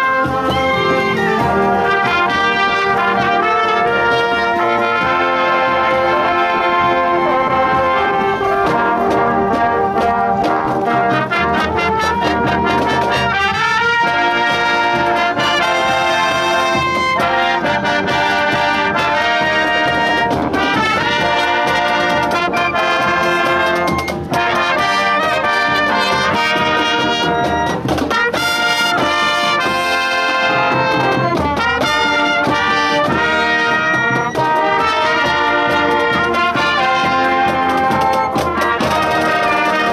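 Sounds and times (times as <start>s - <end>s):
brass glissandi: 0.0s - 39.9s
marching band playing: 0.0s - 39.9s.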